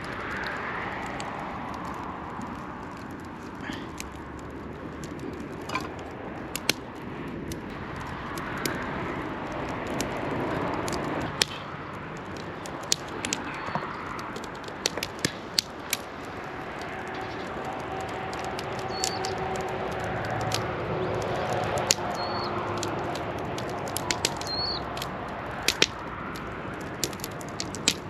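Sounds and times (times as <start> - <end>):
steady rushing noise: 0.0 - 28.0
wood fire crackling: 0.0 - 28.0.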